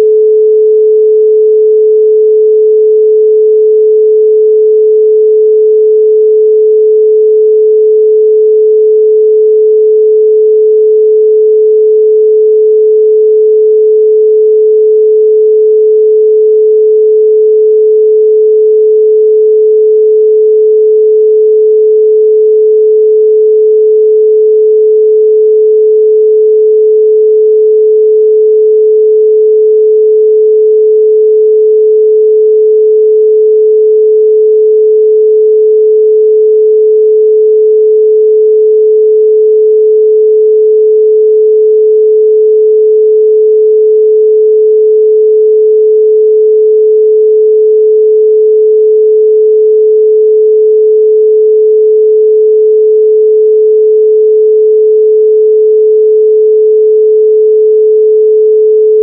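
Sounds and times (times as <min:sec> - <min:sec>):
pure sine tone: 0:00.0 - 0:59.0.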